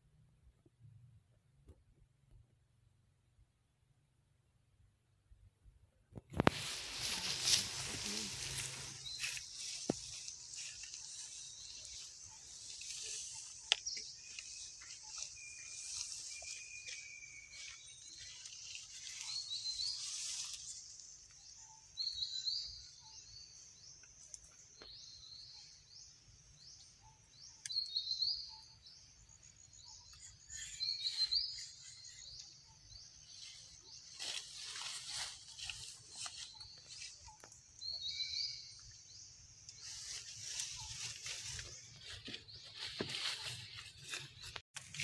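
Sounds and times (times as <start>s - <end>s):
high chirping calls: 6.6s - 44.6s.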